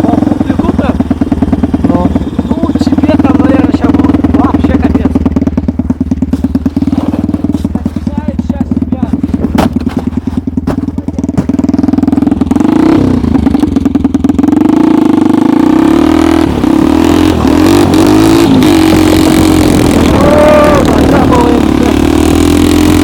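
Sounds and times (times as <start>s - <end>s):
small snowmobile engine revving: 0.0s - 23.0s.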